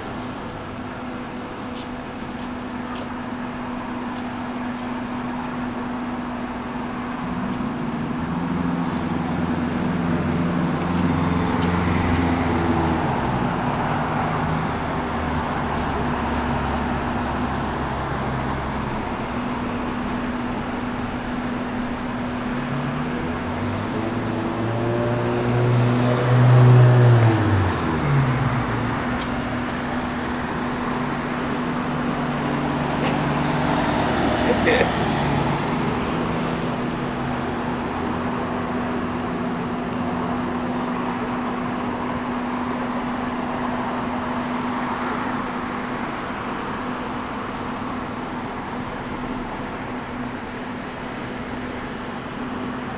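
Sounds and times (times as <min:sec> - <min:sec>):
car engines passing: 0:00.0 - 0:52.9
steady traffic hum: 0:00.0 - 0:52.9.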